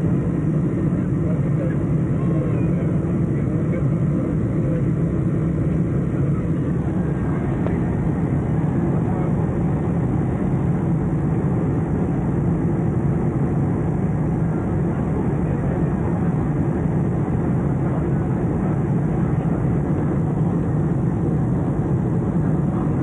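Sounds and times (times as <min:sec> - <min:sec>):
jet airliner cabin drone: 0:00.0 - 0:23.0.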